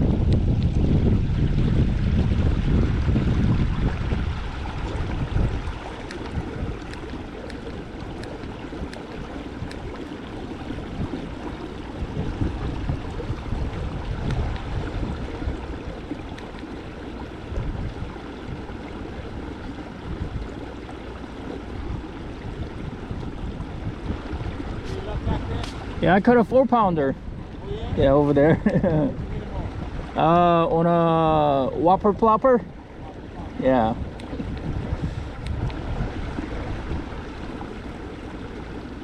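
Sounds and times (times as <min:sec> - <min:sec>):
water lapping against kayak hull: 0:00.0 - 0:39.0
wind rumbling on microphone: 0:00.0 - 0:39.0.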